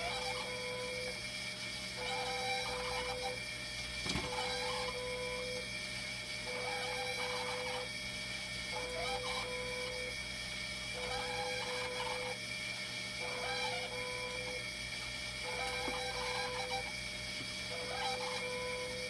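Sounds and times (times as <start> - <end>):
machine high whine: 0.0 - 19.0
pulsing pitched whirring: 0.0 - 19.0.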